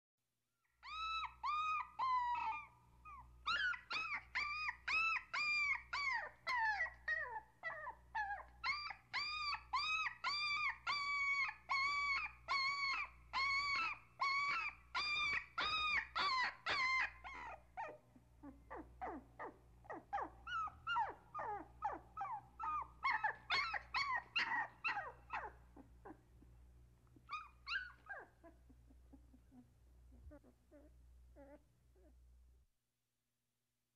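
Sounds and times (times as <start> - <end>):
puppy whining: 0.6 - 32.6.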